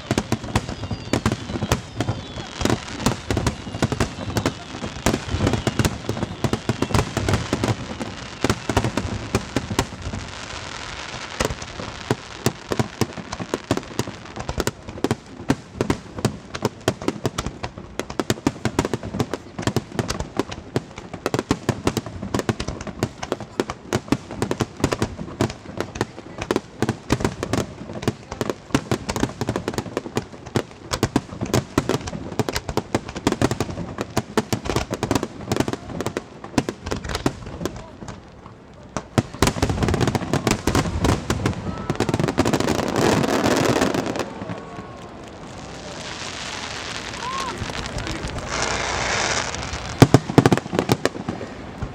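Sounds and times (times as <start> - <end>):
fireworks bursts and crackling: 0.0 - 51.9.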